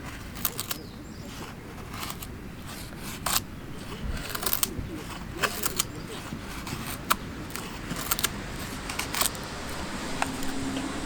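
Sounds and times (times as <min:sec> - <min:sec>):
small objects clicking and knocking: 0:00.0 - 0:10.6
low background noise: 0:00.0 - 0:11.0.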